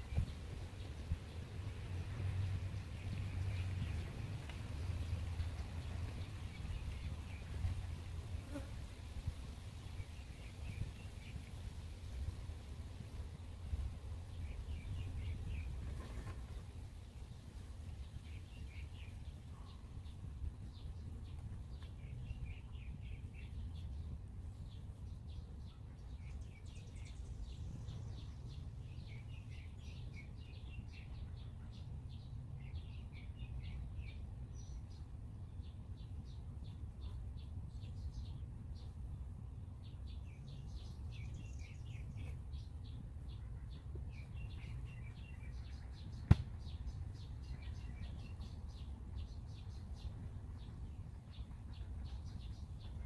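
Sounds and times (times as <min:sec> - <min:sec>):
songbirds chirping and singing: 0:00.0 - 0:09.0, 0:09.8 - 0:11.6, 0:13.3 - 0:53.0.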